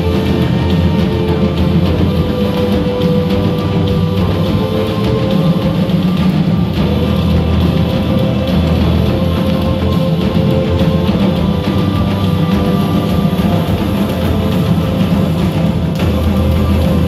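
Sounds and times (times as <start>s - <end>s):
drum kit: 0.0s - 17.0s
marching snare drums: 0.0s - 17.0s.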